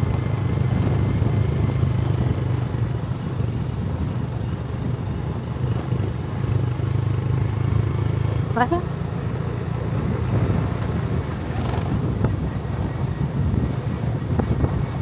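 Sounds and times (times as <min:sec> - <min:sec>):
motorbike running: 0:00.0 - 0:15.0.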